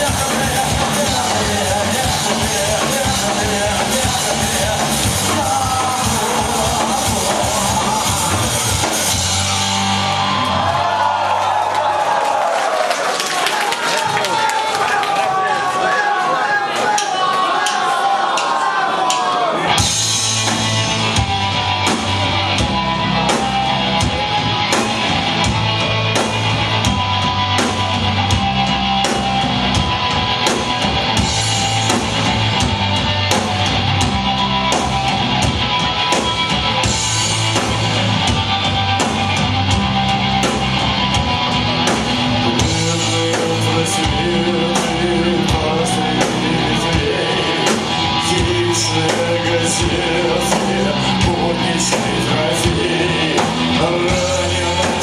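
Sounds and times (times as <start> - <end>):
drum kit beat: 0.0 - 11.2, 17.0 - 55.0
distorted electric guitars: 0.0 - 11.6, 19.6 - 55.0
bass guitar: 0.0 - 12.4, 19.6 - 55.0
live rock band playing: 0.0 - 12.4, 18.2 - 55.0.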